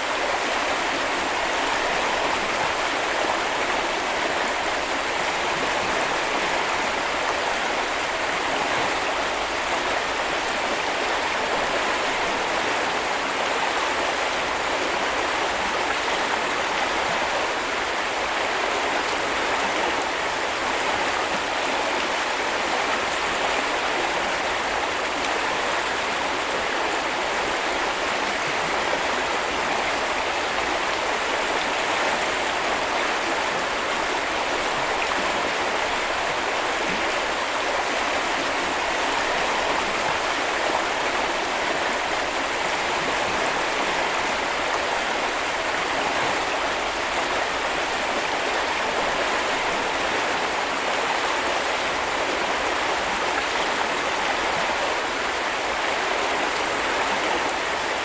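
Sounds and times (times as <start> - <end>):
brook flowing over stones: 0.0 - 58.0.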